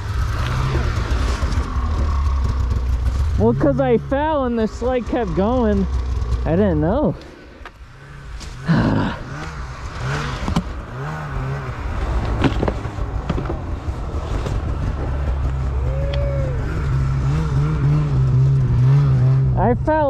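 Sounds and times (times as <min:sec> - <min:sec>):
snowmobile engine at low revs: 0:00.0 - 0:20.0.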